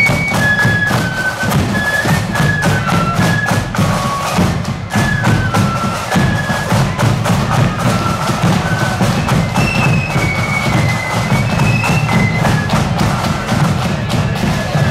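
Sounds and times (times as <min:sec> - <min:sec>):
marching band melody: 0:00.0 - 0:14.9
rapid dense drumming: 0:00.0 - 0:14.9.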